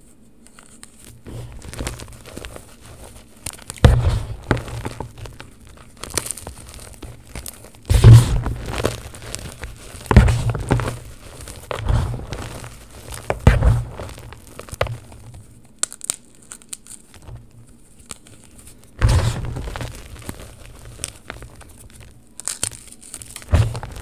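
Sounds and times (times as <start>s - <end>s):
faint chalk crackles: 0.0s - 24.0s
hands crushing chalk in tub: 0.5s - 24.0s.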